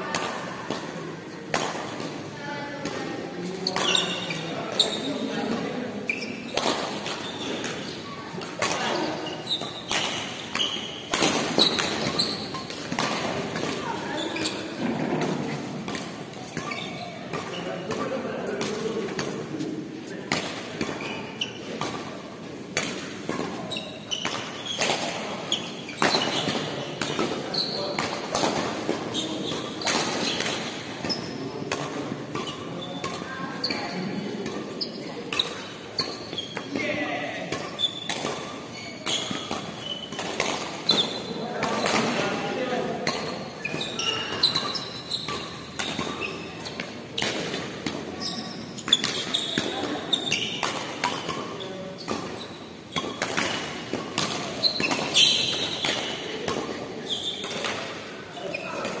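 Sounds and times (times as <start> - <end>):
rackets hitting shuttlecock: 0.1 - 3.0, 3.6 - 59.0
shoes squeaking on court floor: 0.2 - 59.0.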